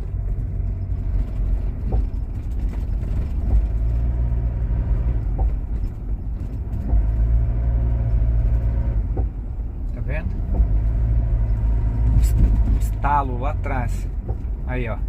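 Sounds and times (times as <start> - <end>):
engine and road rumble in cabin: 0.0 - 15.0.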